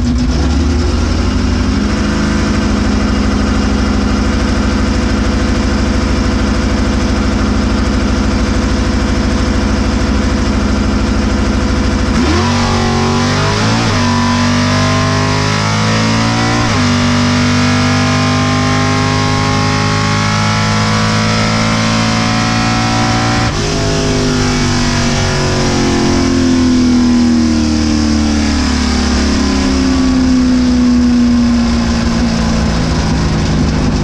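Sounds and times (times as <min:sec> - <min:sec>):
drag car engine revving: 0:00.0 - 0:34.0.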